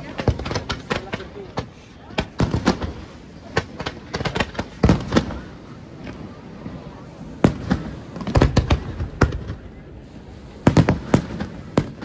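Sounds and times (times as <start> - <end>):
fireworks bursting with loud bangs: 0.0 - 12.0.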